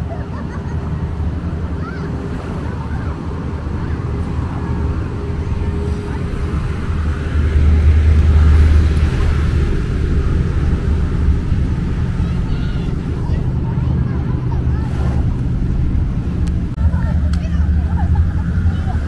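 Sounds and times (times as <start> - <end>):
traffic rumble: 0.0 - 19.0
vehicle passing close: 0.0 - 19.0.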